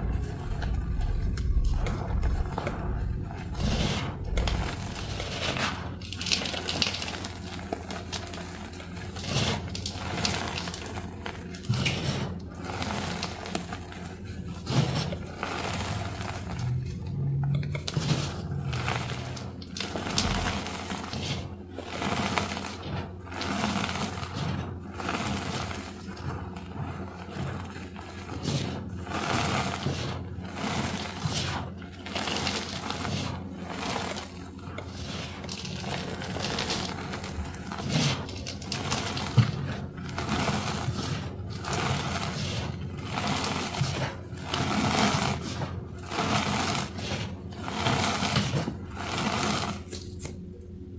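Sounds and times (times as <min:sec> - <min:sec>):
chalk powder crunching in hands: 0:00.0 - 0:50.4.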